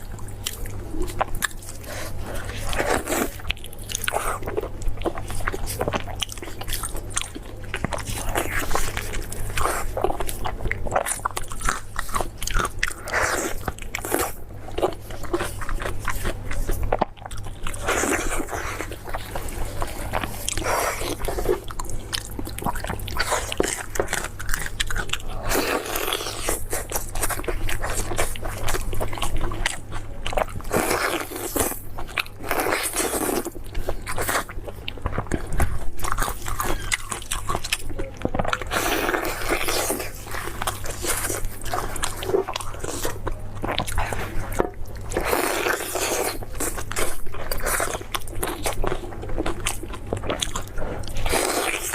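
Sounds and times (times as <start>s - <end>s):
person chewing with crunching: 0.0s - 51.9s.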